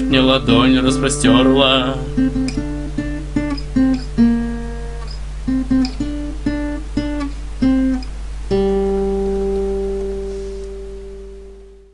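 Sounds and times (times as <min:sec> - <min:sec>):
acoustic guitar notes and chord: 0:00.0 - 0:11.9.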